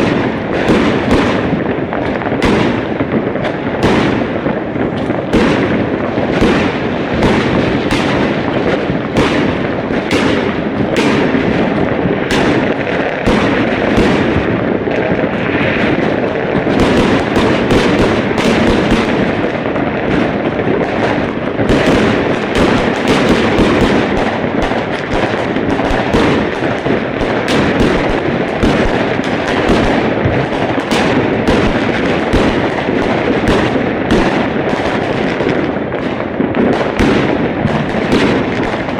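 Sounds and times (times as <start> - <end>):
fireworks bangs: 0.0 - 38.9
fireworks crackle: 0.0 - 38.9.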